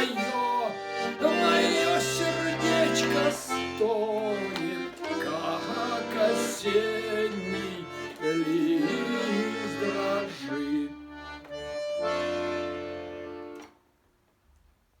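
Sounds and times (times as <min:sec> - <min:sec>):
accordion playing folk song: 0:00.0 - 0:13.8.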